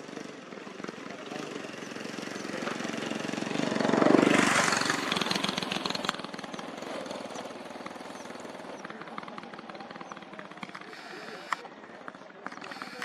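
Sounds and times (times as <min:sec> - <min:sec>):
small engine passing by: 0:00.0 - 0:13.0.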